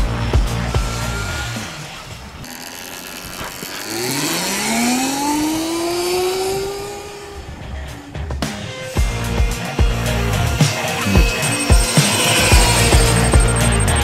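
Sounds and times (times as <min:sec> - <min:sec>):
electric motor whine rising: 0:00.0 - 0:14.0
electric motorcycle passing: 0:00.0 - 0:14.0
road and wind noise: 0:00.0 - 0:14.0.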